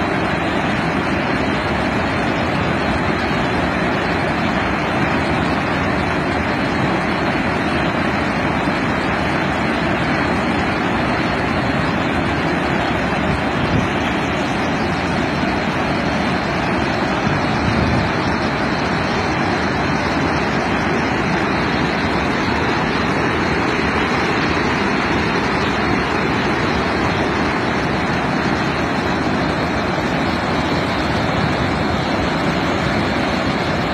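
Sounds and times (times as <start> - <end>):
water rushing over spillway: 0.0 - 33.9.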